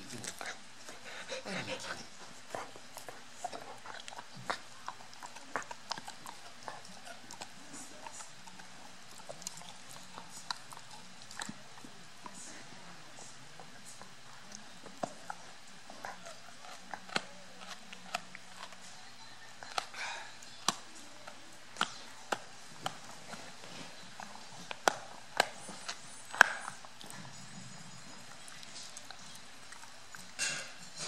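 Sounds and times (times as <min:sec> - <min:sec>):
dog chewing a rawhide treat: 0:00.0 - 0:31.0.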